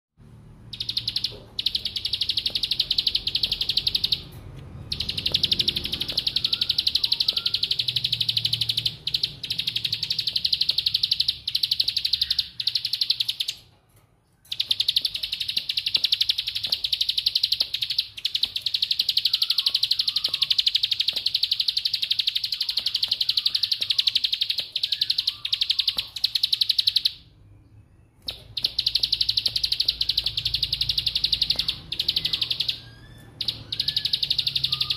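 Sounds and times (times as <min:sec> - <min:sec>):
bird rattling trill: 0:00.7 - 0:13.7, 0:14.4 - 0:27.2, 0:28.2 - 0:34.9.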